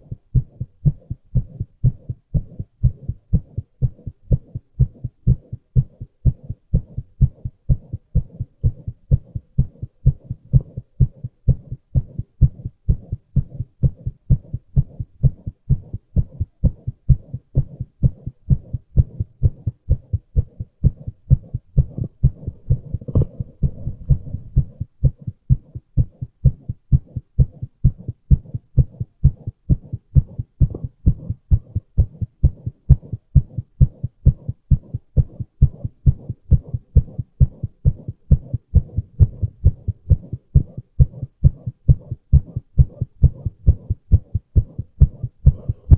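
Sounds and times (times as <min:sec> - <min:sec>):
heartbeat thuds: 0:00.0 - 0:45.9.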